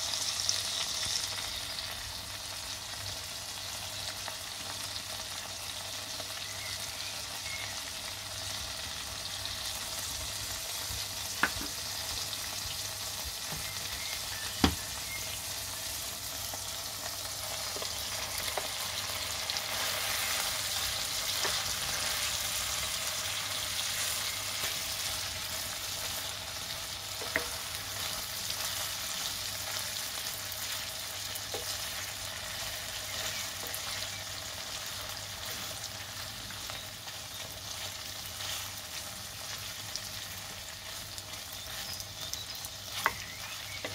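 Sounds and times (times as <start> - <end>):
liver sizzling in a frying pan: 0.0 - 43.9.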